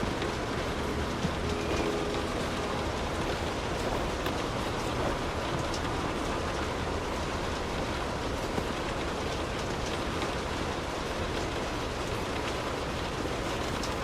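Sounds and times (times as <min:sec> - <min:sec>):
light rain on car roof: 0:00.0 - 0:14.0
raindrop ticks: 0:00.0 - 0:14.0.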